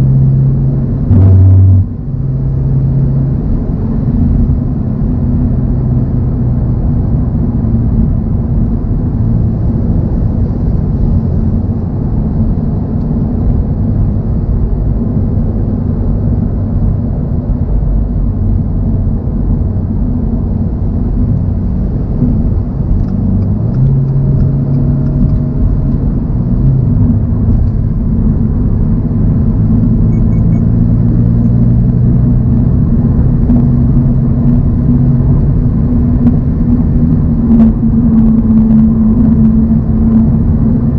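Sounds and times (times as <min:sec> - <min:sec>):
car engine cruising: 0:00.0 - 0:40.9
road noise: 0:00.0 - 0:40.9.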